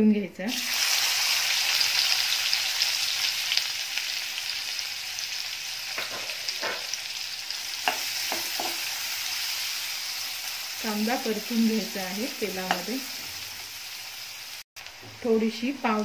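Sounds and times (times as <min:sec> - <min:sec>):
onion sizzling in oil: 0:00.5 - 0:16.0.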